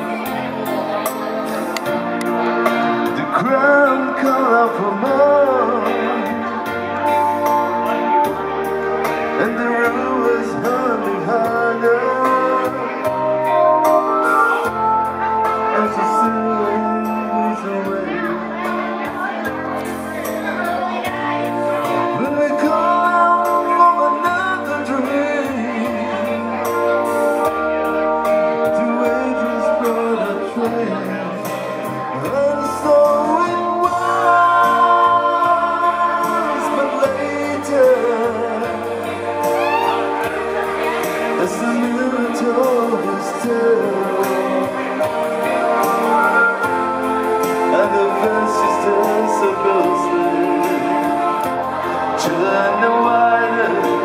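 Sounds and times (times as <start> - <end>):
electronic keyboard: 0.0 - 54.0
man singing into microphone: 1.9 - 54.0.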